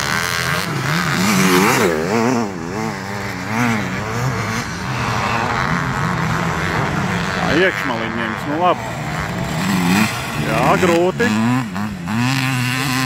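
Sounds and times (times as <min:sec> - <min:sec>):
motocross engine revving: 0:00.0 - 0:13.0
motocross engines running steadily: 0:00.0 - 0:13.0.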